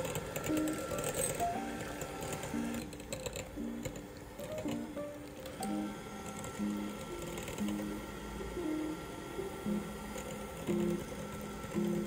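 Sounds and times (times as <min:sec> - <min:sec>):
background music: 0:00.0 - 0:12.0
electric hand mixer whisking: 0:00.0 - 0:12.0.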